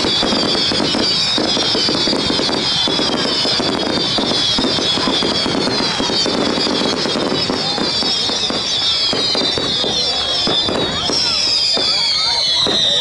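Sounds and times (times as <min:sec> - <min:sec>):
fireworks fountains hissing and crackling: 0:00.0 - 0:13.0
fireworks whistling: 0:00.0 - 0:13.0.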